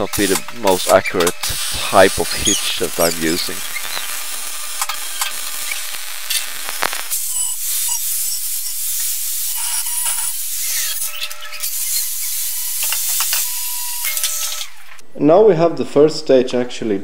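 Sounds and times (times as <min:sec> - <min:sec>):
angle grinder grinding: 0:00.0 - 0:15.0
welding crackling and popping: 0:00.0 - 0:15.0.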